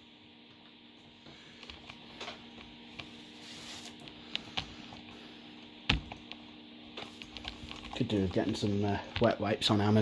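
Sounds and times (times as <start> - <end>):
fan humming: 0.0 - 10.0.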